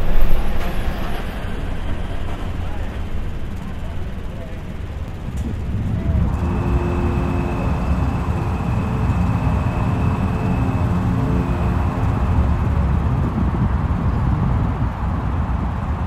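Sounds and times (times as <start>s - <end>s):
faint steady hum tones: 0.0s - 16.0s
low engine rumble: 0.0s - 16.0s.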